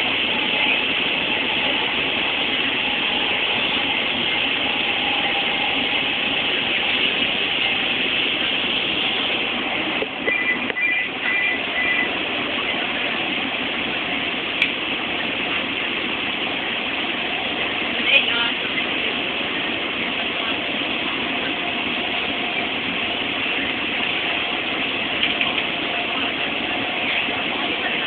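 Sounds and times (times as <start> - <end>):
train running: 0.0 - 28.0.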